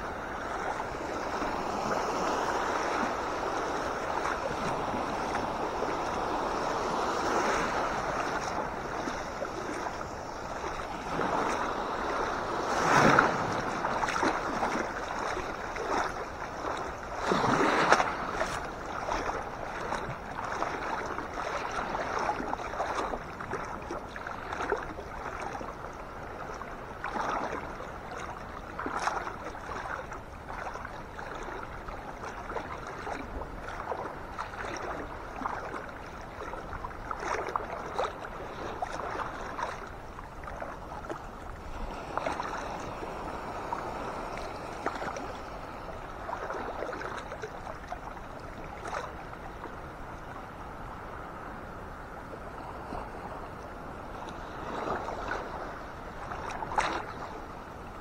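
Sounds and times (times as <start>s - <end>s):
small waves washing in: 0.0s - 58.0s
water splashing around wading person: 0.0s - 58.0s.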